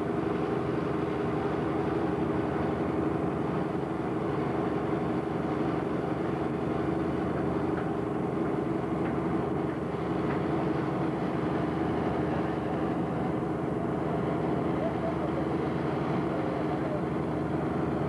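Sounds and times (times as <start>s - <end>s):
crane diesel engine humming: 0.0s - 18.0s.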